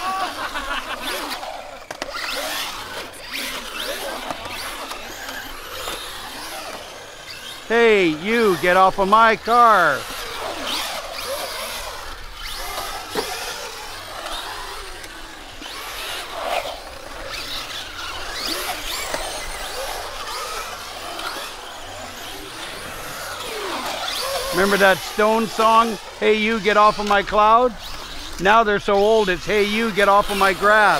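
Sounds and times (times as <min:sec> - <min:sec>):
rc car motors whining: 0:00.0 - 0:30.9.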